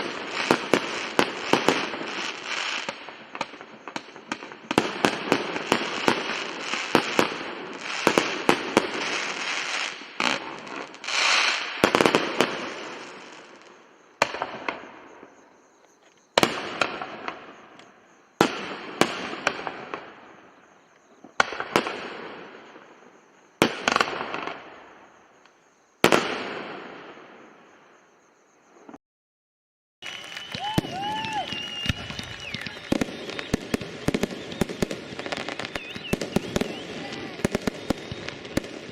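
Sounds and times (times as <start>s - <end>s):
fireworks exploding: 0.0s - 15.6s, 16.3s - 28.1s, 30.0s - 38.9s.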